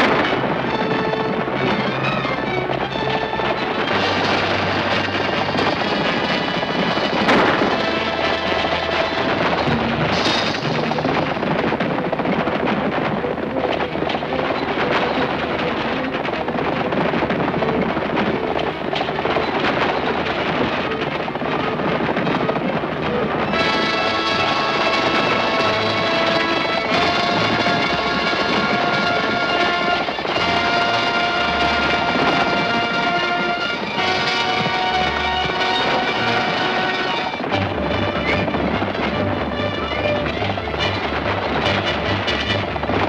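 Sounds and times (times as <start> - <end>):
galloping hooves: 0.0 - 43.0
orchestral film music: 0.0 - 43.0
wagon rattling: 0.0 - 43.0.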